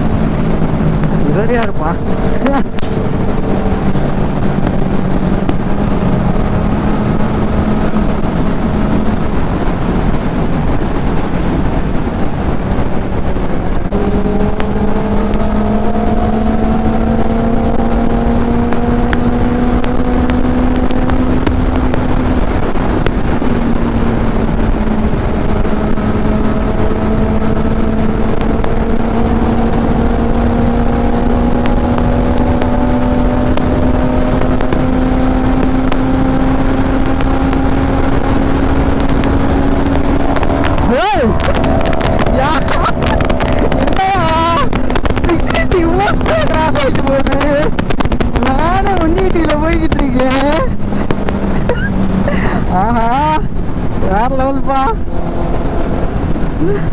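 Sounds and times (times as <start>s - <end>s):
motorcycle engine at speed: 0.0s - 56.9s
wind rush on microphone: 0.0s - 56.9s.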